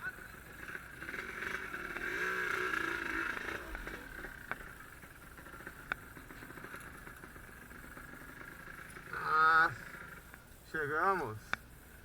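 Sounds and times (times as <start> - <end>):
two-stroke motorcycle engine: 0.0 - 10.5.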